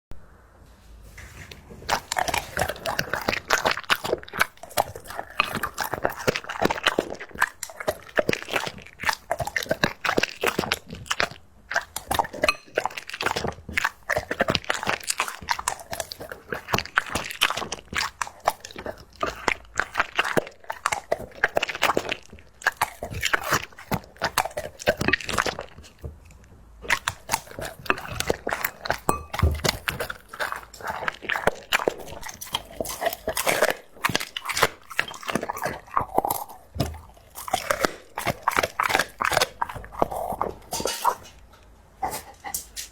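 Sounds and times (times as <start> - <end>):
dog chewing and crunching: 1.1 - 42.9.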